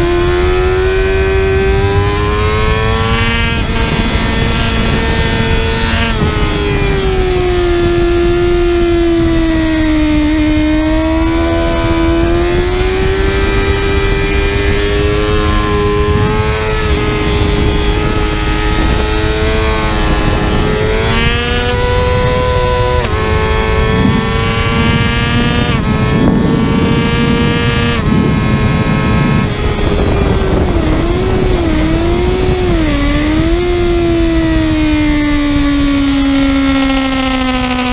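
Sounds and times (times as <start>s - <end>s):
motorcycle engine at high revs: 0.0s - 37.9s
wind rushing: 0.0s - 37.9s.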